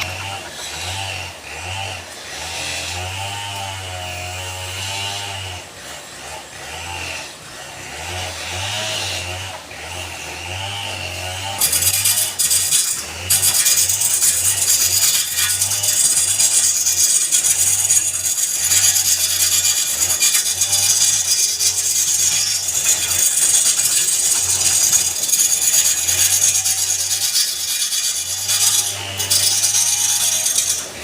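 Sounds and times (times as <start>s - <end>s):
turning tool scraping wood: 0.0s - 7.4s, 8.0s - 31.0s.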